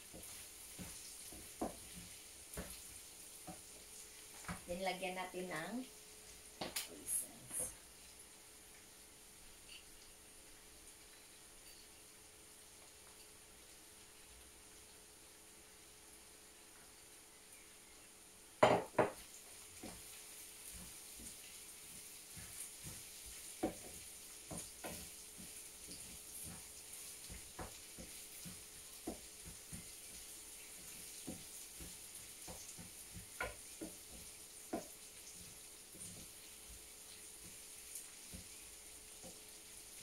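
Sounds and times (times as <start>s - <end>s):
faint sizzle: 0.0s - 40.0s.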